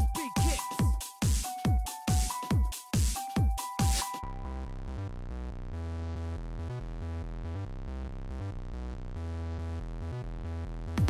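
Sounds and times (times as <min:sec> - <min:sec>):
electronic music with synth bass: 0:00.0 - 0:11.0.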